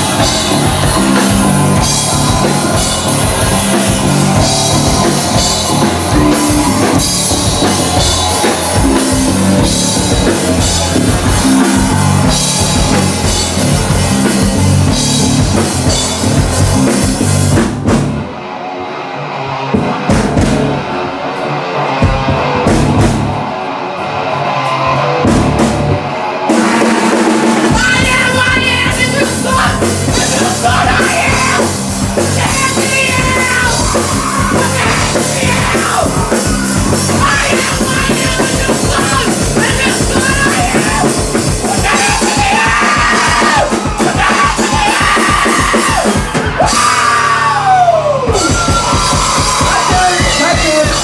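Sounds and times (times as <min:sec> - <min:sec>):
rock band playing: 0:00.0 - 0:51.0.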